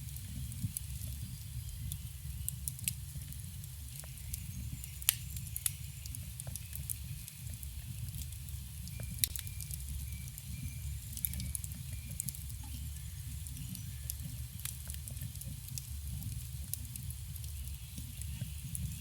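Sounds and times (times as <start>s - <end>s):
campfire burning: 0.0s - 19.0s
fire crackles and pops: 0.0s - 19.0s.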